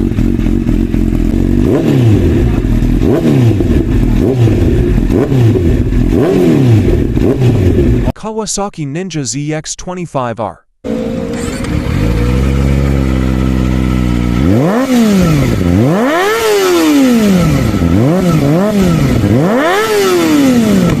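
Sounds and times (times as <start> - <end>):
motorcycle engine idling and revving: 0.0 - 8.1, 10.8 - 21.0.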